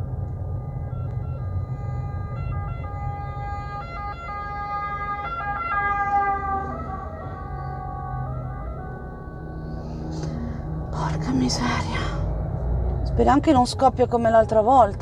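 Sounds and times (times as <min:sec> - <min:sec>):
emergency vehicle siren: 0:00.0 - 0:13.1
road rumble inside car: 0:00.0 - 0:15.0.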